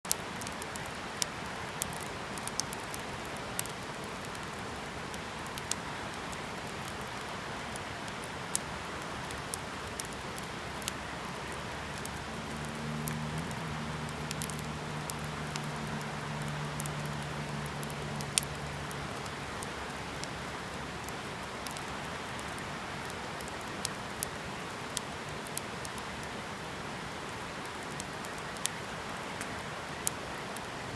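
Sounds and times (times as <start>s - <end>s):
wood fire crackling: 0.1s - 30.9s.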